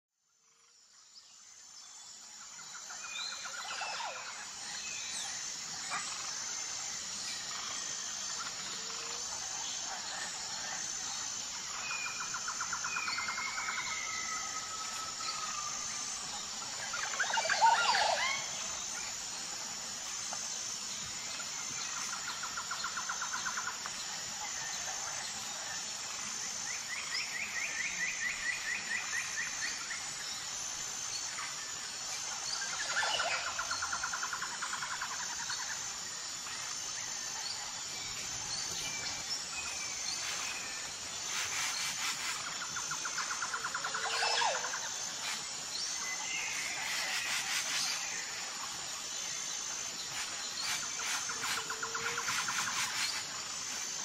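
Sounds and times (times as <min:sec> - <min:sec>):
songbirds trilling and chirping: 0:00.5 - 0:54.0
steady hiss: 0:00.8 - 0:54.0.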